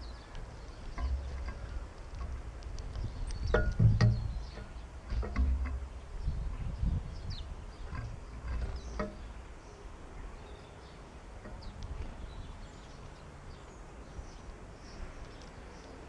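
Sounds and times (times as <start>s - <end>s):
small birds chirping: 0.0s - 16.0s
wind rumble on microphone: 0.0s - 16.0s.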